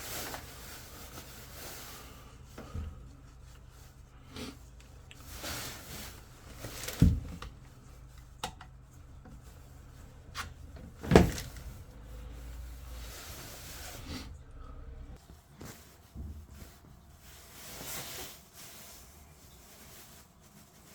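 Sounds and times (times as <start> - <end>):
rustling: 0.0 - 20.9.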